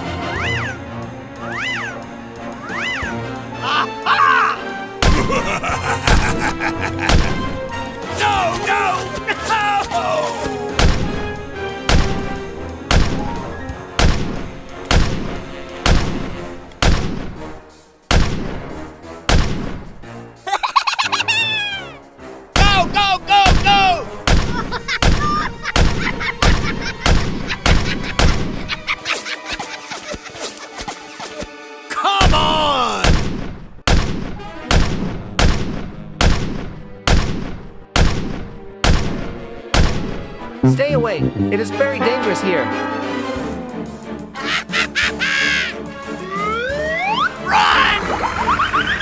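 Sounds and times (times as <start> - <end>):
background music: 0.0 - 49.0.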